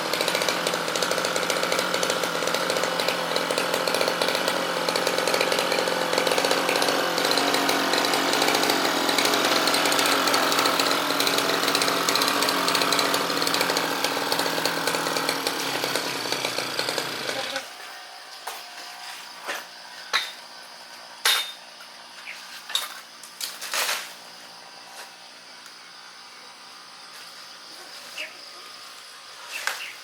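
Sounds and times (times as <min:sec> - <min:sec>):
brush cutter running: 0:00.0 - 0:30.0.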